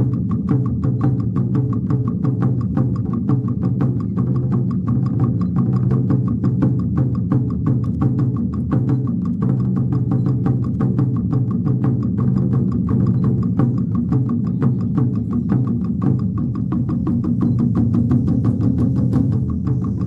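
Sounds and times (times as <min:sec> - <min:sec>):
drum ensemble playing: 0:00.0 - 0:20.0
large drums ringing low: 0:00.0 - 0:20.0.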